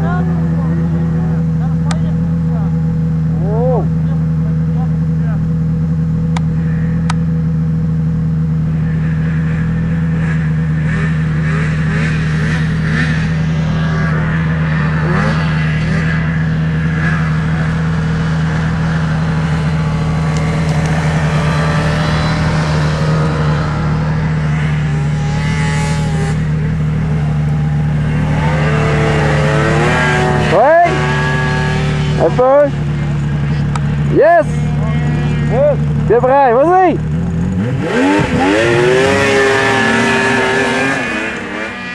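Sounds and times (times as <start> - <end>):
snowmobile engine idling: 0.0 - 41.9
snowmobile engine revving: 0.0 - 41.9.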